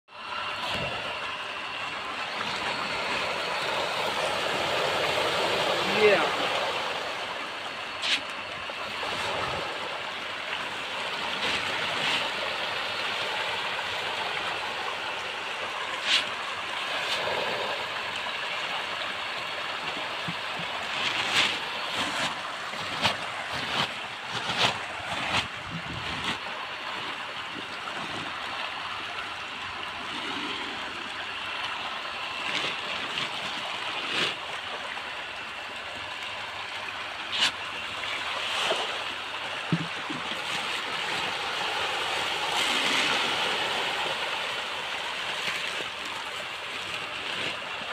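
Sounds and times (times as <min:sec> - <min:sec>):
fish splashing in pond: 0:00.2 - 0:47.9.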